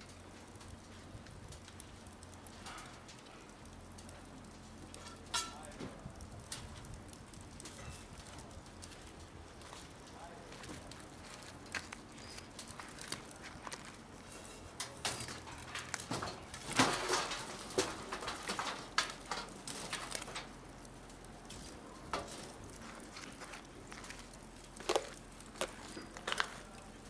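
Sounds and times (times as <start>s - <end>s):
firewood crackling and popping: 0.0s - 27.0s.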